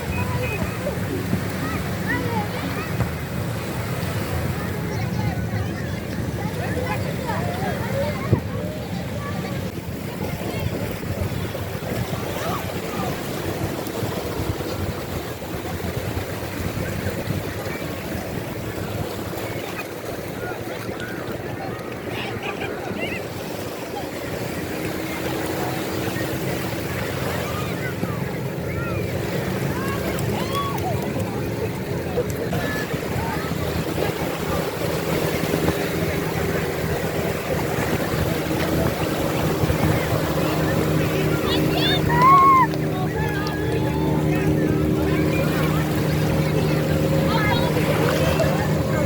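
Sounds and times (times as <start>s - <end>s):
motorboat engine running: 0.0s - 49.0s
wind and water rushing: 0.0s - 49.0s.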